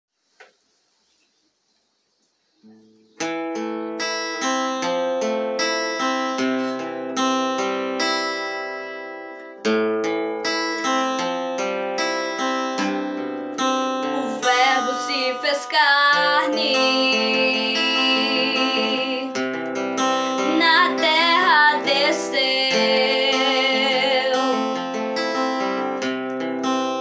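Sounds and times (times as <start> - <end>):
acoustic guitar strumming chords: 2.7 - 27.0.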